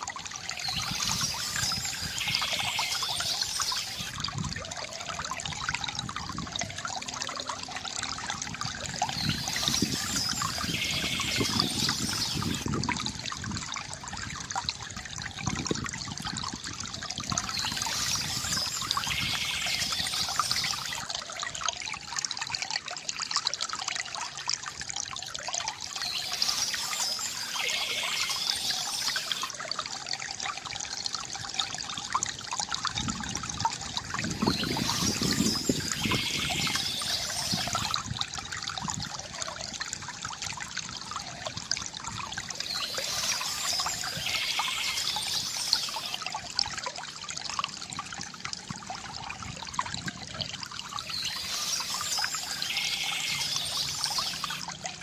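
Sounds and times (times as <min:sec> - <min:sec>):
fountain water trickling: 0:00.0 - 0:55.0.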